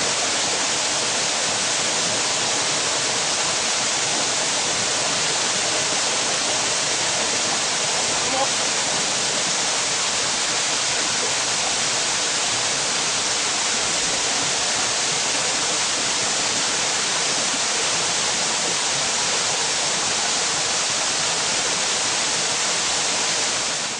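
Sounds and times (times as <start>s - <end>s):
waterfall onto rocks: 0.0s - 23.9s.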